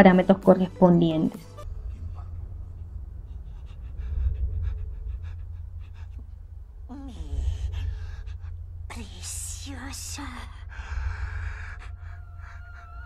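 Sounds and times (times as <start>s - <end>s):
low hum: 1.6s - 13.0s.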